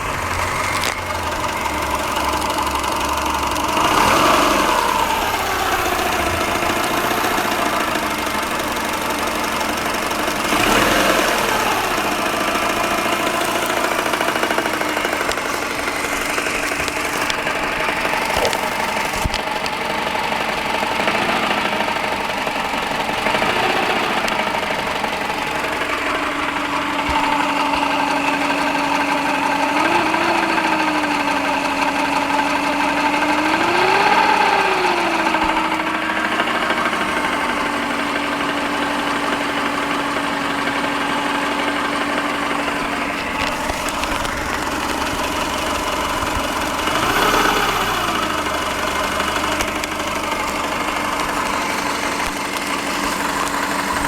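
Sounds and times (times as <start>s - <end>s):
car engine idling with a knock: 0.0s - 34.5s, 35.2s - 54.0s
engine revving: 0.0s - 54.0s.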